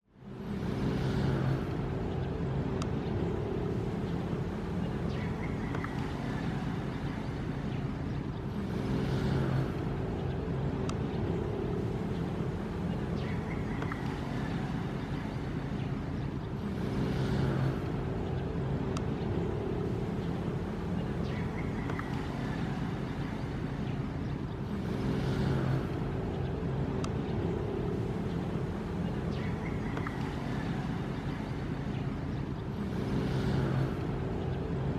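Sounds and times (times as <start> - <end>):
ocean waves washing in: 0.1 - 34.9.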